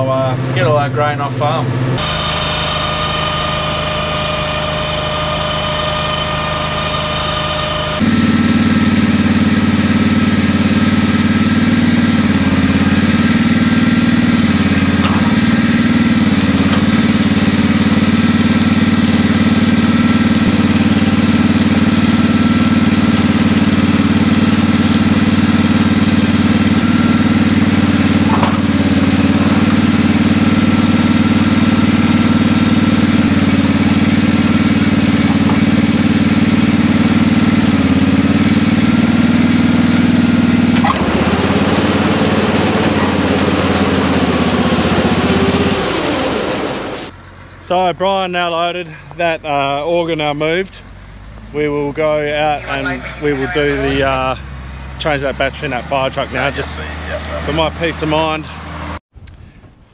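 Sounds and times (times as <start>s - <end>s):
small engine running steadily: 0.0s - 47.7s, 50.6s - 59.4s.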